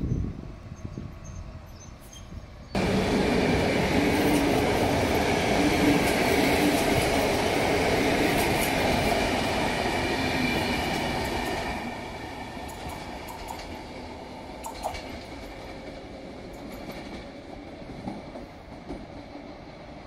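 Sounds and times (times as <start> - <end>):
train wheels on rail: 0.0 - 20.0.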